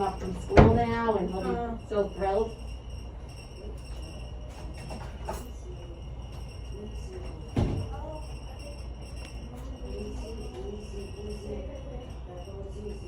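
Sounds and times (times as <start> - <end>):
low hum with high whine: 0.0 - 13.0
muffled voices: 0.0 - 13.0.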